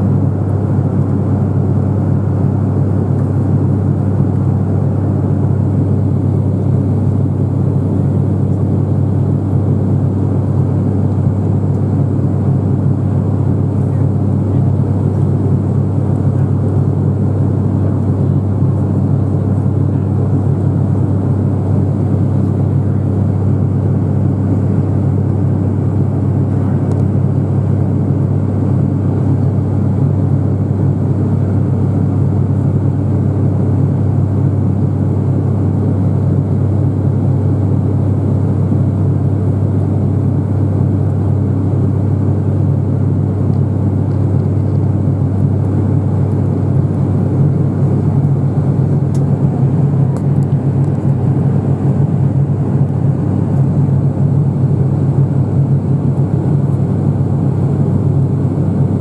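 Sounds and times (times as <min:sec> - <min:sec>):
airliner propeller drone in cabin: 0:00.0 - 0:59.0.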